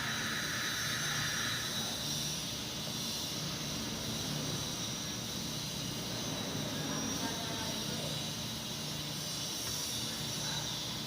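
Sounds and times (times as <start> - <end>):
machine hiss and hum: 0.0 - 11.0.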